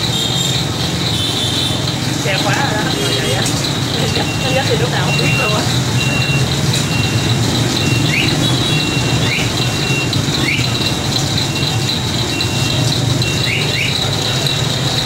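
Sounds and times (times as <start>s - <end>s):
machine squeaks and chirps: 0.0s - 15.0s.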